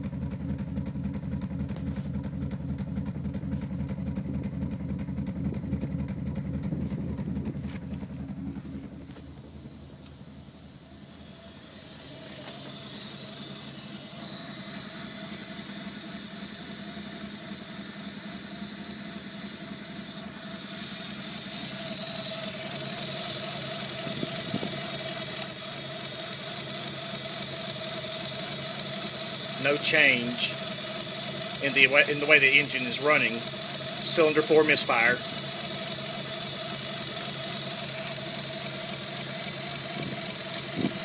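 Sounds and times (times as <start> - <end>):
engine running with a misfire: 0.0 - 41.0.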